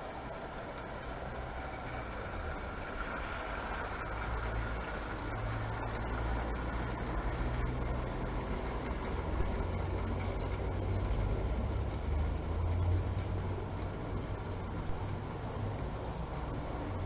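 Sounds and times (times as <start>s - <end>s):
model train wheels rumbling: 0.0s - 17.0s.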